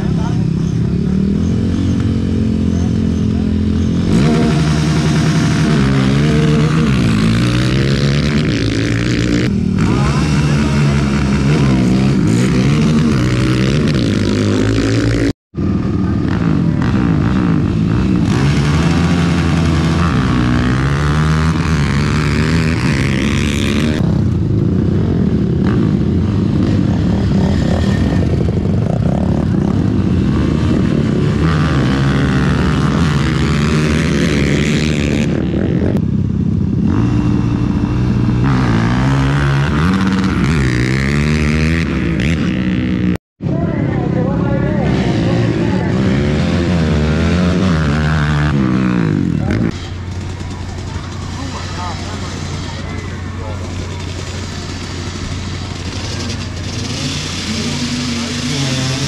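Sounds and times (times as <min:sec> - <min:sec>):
quad engines revving: 0:00.0 - 0:59.0.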